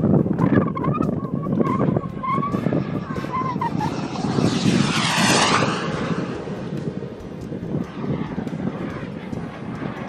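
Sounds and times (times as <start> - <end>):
wind rumble on microphone: 0.0 - 10.0
model jet turbine whine: 1.4 - 10.0.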